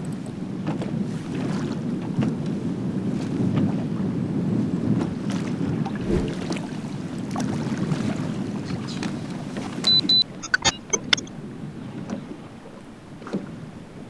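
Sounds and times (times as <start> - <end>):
wind and water against boat: 0.0 - 14.0.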